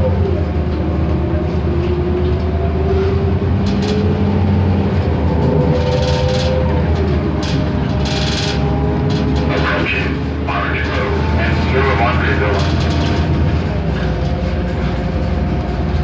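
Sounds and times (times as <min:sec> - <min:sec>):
bus engine hum with rising whine: 0:00.0 - 0:16.0.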